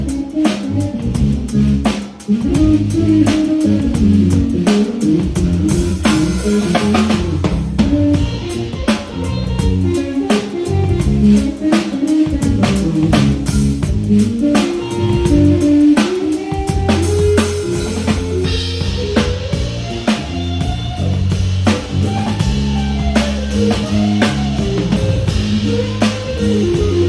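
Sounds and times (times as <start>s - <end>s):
jazz band playing: 0.0s - 27.0s.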